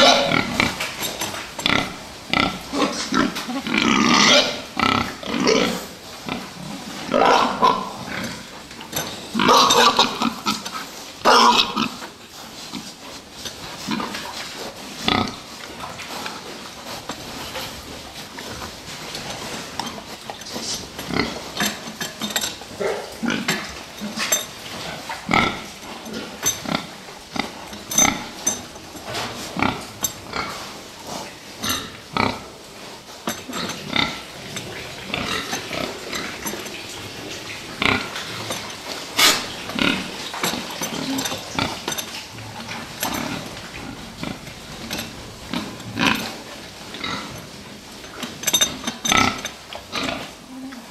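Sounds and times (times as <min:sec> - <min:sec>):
pigs grunting: 0:00.0 - 0:50.9.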